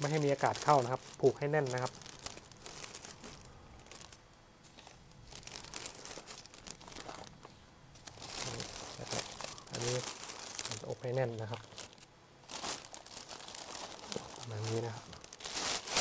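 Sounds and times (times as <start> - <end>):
plastic bag crinkling: 0.0 - 7.4, 8.0 - 16.0.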